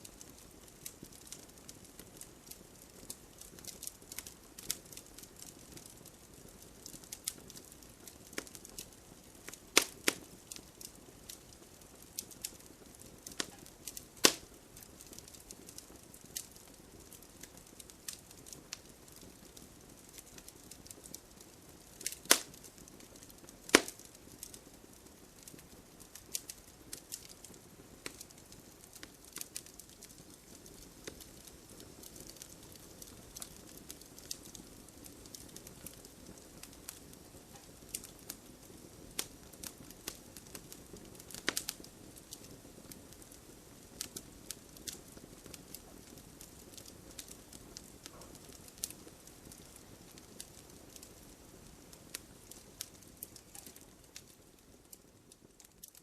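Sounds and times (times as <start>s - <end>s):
campfire crackling: 0.0s - 56.0s
fire popping and snapping: 0.0s - 56.0s.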